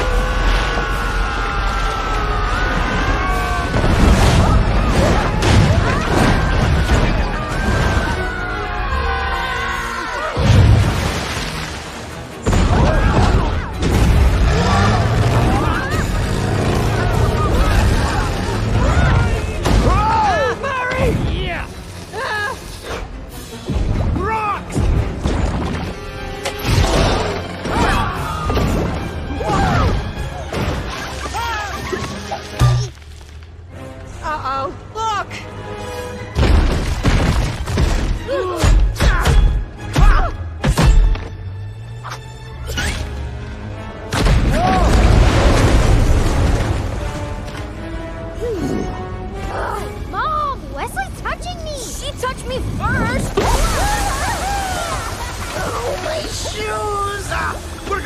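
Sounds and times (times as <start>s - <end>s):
film soundtrack music: 0.0s - 58.0s.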